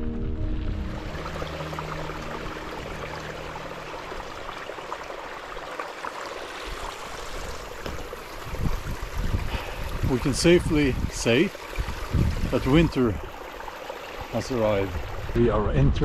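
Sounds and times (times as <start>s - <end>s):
stream water rushing: 0.0s - 15.4s.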